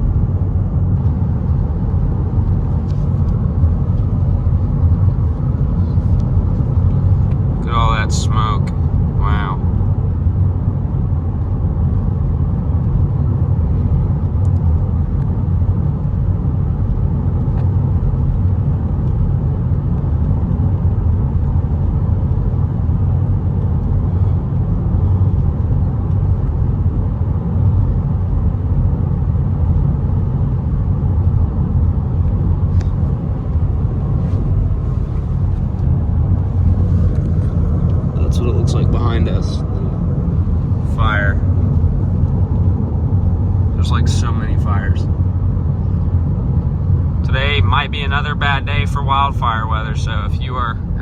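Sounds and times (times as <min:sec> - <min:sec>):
car driving interior rumble: 0:00.0 - 0:51.0.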